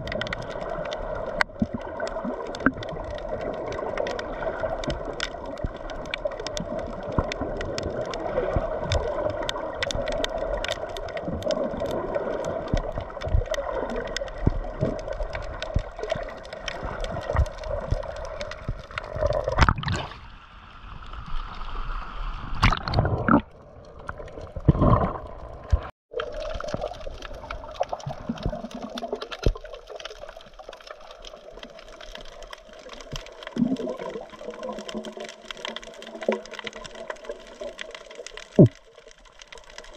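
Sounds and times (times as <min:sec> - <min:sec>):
crackle of fine clicks: 0:00.0 - 0:39.9
water gurgling and sloshing: 0:00.0 - 0:39.9.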